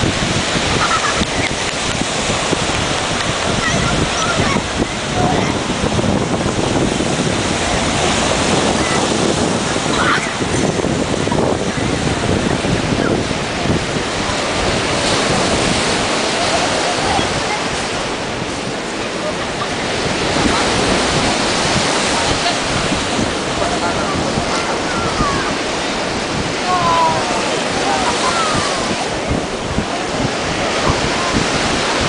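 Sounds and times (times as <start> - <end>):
surf breaking on beach: 0.0 - 32.0
wind buffeting microphone: 0.0 - 32.0.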